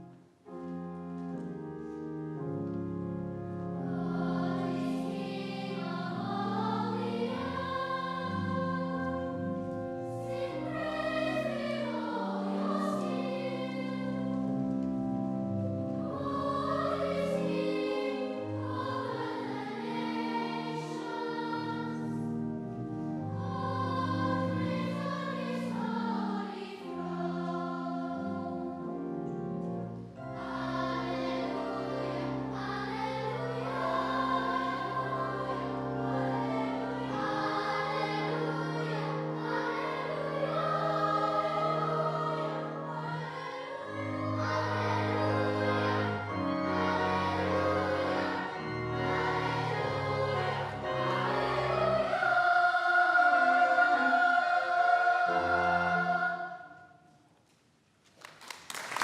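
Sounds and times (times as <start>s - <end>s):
keyboard accompaniment: 0.0s - 57.2s
children's choir singing: 3.7s - 22.5s, 23.1s - 57.2s.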